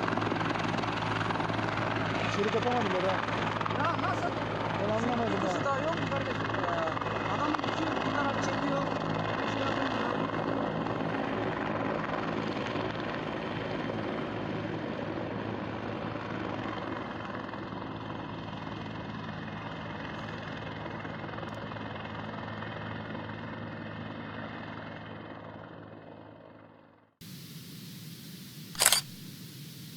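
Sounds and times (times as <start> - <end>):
helicopter rotor and engine drone: 0.0 - 27.2, 28.5 - 29.9.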